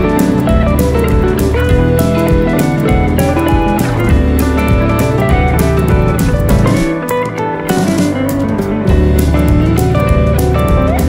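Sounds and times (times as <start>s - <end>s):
guitar-led music with steady beat: 0.0s - 11.0s.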